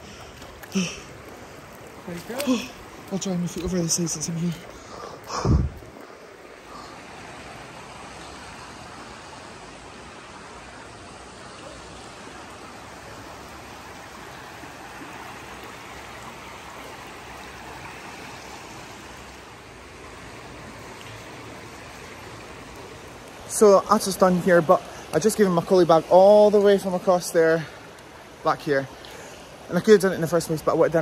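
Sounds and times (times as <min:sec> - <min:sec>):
stream flowing over rocks: 0:00.0 - 0:31.0.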